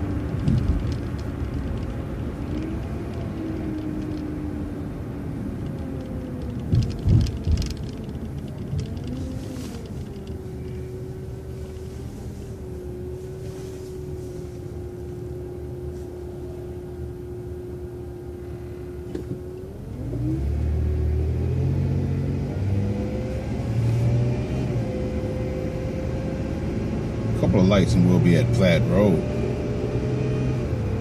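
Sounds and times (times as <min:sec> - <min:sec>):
bus engine humming with whine: 0:00.0 - 0:31.0.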